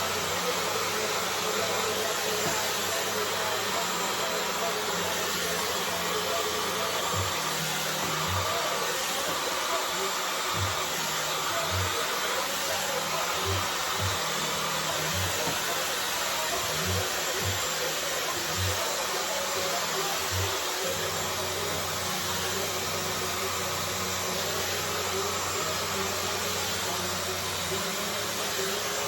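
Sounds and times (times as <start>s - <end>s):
hair dryer blowing: 0.0s - 29.0s.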